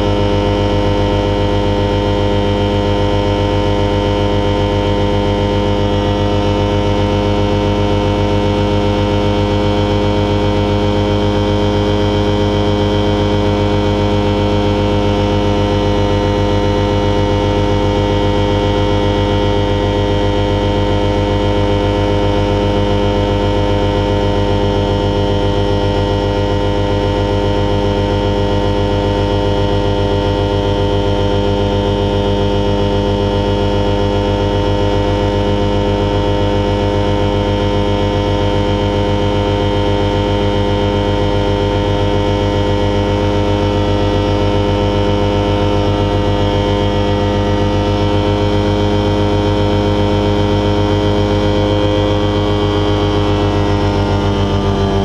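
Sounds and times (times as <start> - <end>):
glider engine and propeller running: 0.0 - 55.0.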